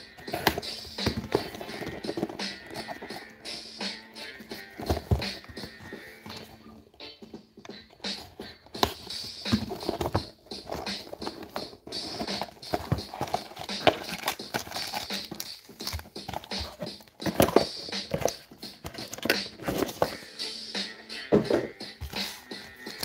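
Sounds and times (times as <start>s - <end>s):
cardboard boxes tapping and rustling: 0.1s - 3.3s, 4.3s - 20.2s, 21.3s - 23.0s.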